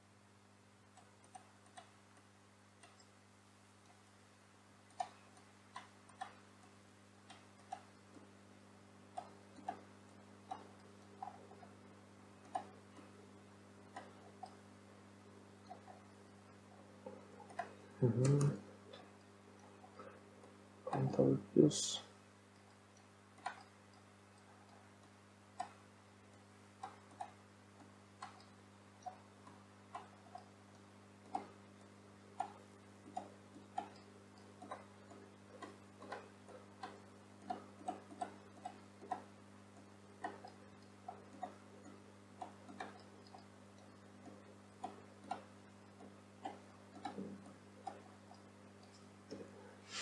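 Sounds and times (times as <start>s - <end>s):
low electrical hum: 0.0s - 50.0s
computer mouse clicks: 0.9s - 3.2s, 4.8s - 8.3s, 9.1s - 11.8s, 12.4s - 13.2s, 13.8s - 14.6s, 15.6s - 16.2s, 17.0s - 21.3s, 22.6s - 50.0s.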